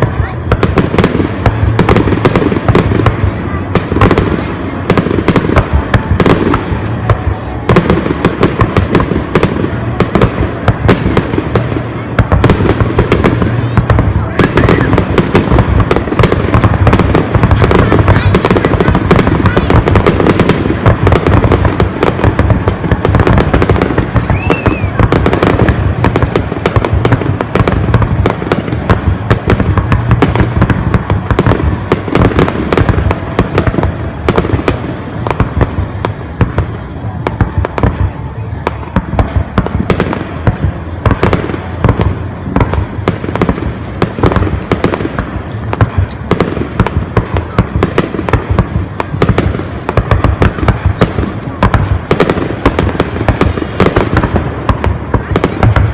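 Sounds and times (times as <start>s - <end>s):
firework whistle: 0.0s - 55.9s
fireworks bangs and crackling: 0.0s - 55.9s.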